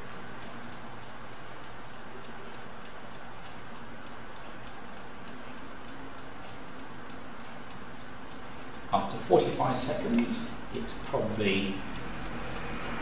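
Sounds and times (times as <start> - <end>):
faint steady hum: 0.0 - 13.0
stopclock ticking: 0.0 - 13.0.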